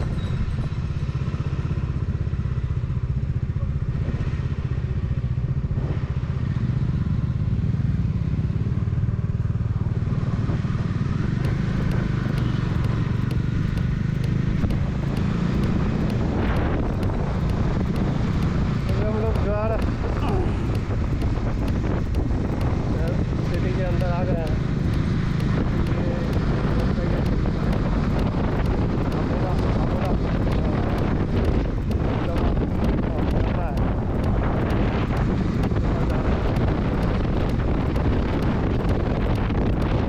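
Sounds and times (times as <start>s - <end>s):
motorcycle engine rumbling: 0.0s - 10.1s, 10.8s - 40.0s.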